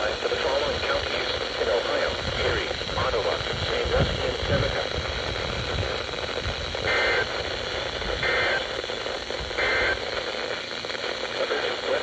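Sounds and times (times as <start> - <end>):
radio noise hiss: 0.0 - 12.0.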